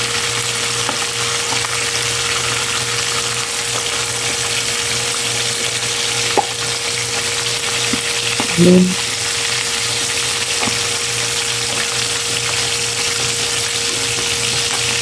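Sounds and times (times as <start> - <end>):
fish sizzling in hot oil: 0.0 - 8.4, 9.0 - 15.0.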